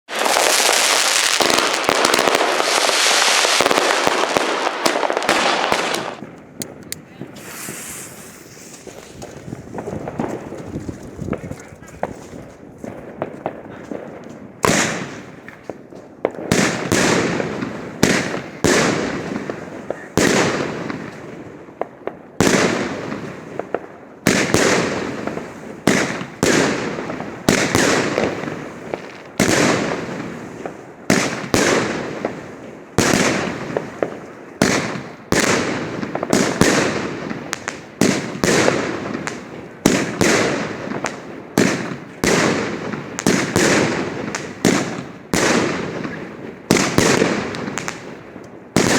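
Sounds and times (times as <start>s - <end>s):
firework bangs: 0.1s - 48.9s.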